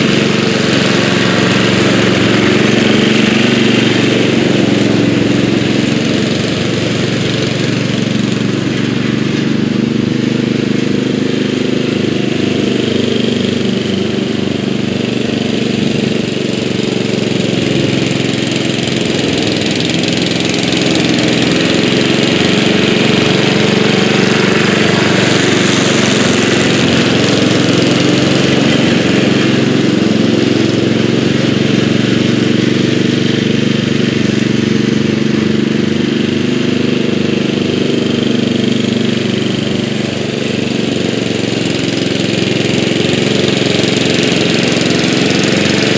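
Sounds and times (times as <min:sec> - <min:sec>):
lawn tractor engine running: 0:00.0 - 0:45.9
mower deck cutting grass: 0:00.0 - 0:45.9.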